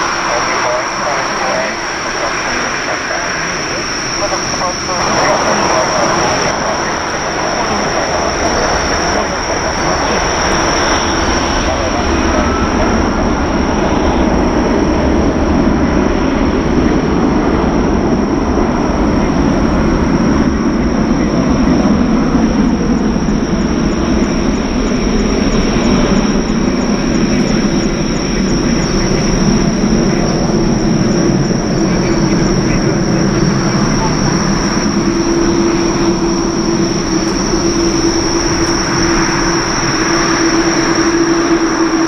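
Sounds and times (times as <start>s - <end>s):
jet engines at high thrust: 0.0s - 42.0s.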